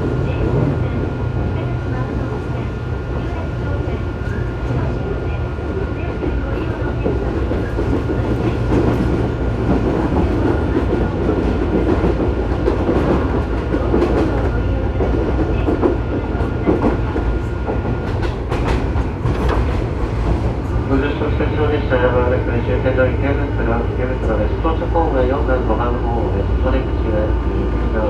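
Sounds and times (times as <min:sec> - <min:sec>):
train running gear rumble: 0:00.0 - 0:28.0.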